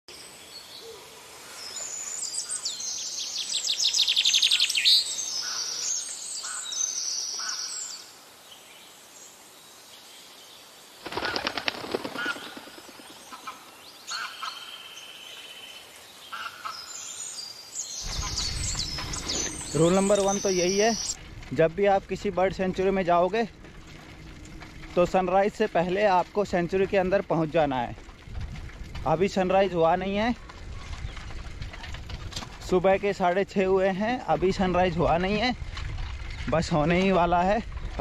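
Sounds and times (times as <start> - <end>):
birds chirping and twittering: 0.1 - 38.0.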